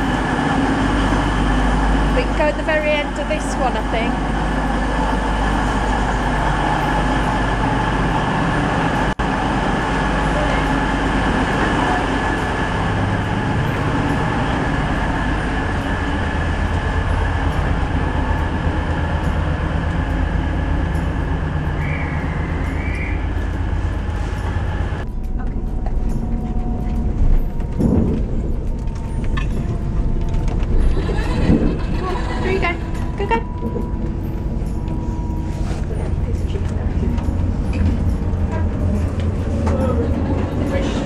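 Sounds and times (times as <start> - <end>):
diesel train low rumble: 0.0 - 41.0.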